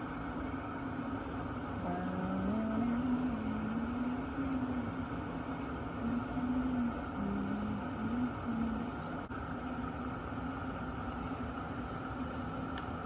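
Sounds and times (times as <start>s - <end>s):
coffee maker humming: 0.0s - 13.0s.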